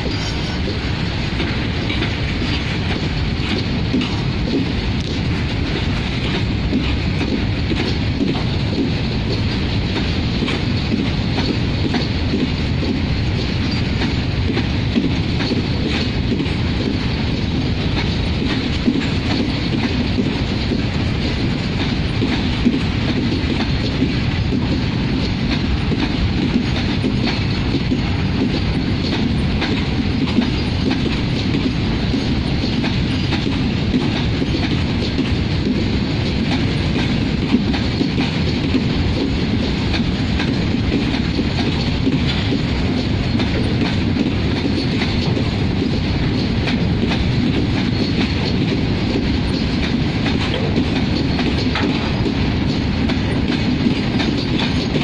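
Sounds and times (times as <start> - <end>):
freight train wheels rumbling: 0.0 - 55.0
wheels clicking over rail joints: 0.0 - 55.0.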